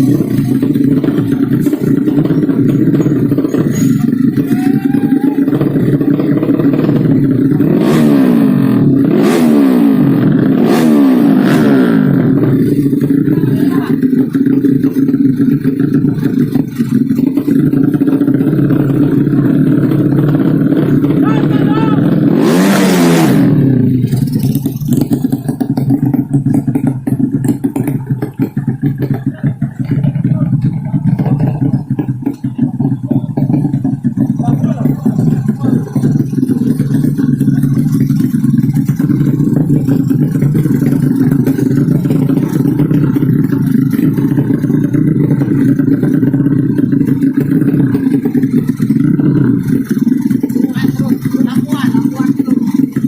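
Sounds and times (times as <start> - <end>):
motorcycles revving high: 0.0 - 53.0.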